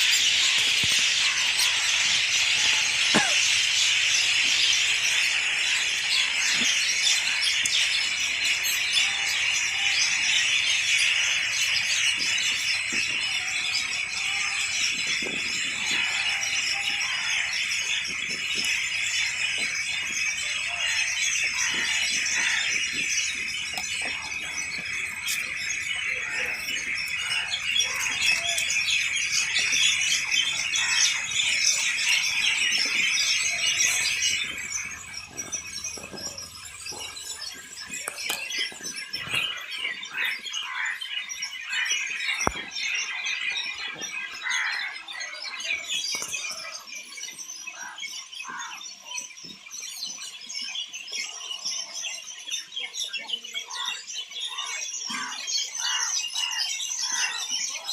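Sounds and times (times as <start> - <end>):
birds chirping and twittering: 0.0 - 57.9.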